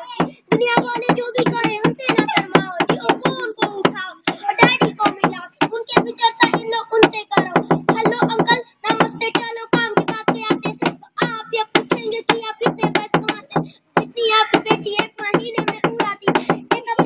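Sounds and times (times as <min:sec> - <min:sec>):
boy rapping fast: 0:00.0 - 0:17.0.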